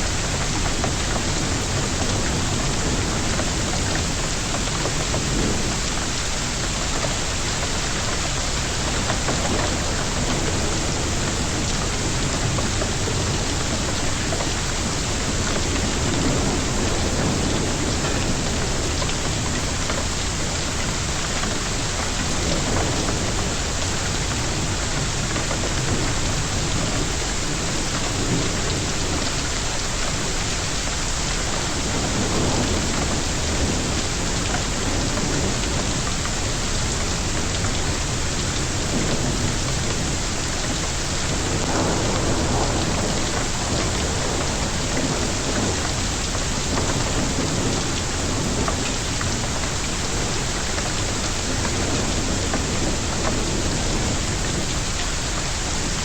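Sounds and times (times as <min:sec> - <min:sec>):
rain and hail pelting: 0:00.0 - 0:56.0.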